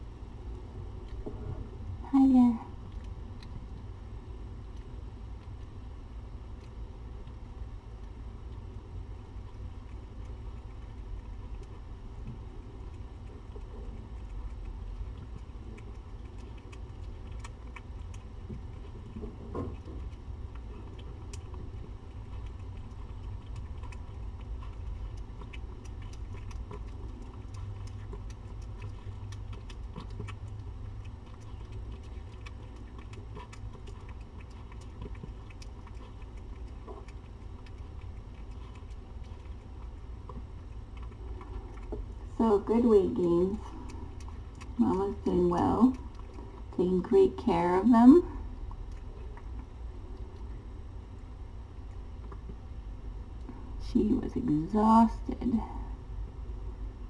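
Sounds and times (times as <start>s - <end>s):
cat chewing food: 0.0s - 2.0s, 2.6s - 53.9s
low hum: 0.0s - 57.0s.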